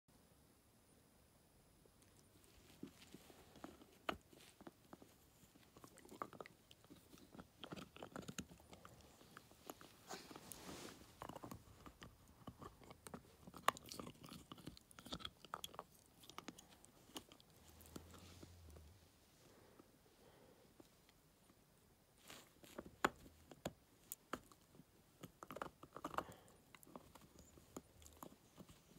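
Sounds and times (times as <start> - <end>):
dog gnawing a chew stick: 2.0 - 18.8, 22.2 - 28.9.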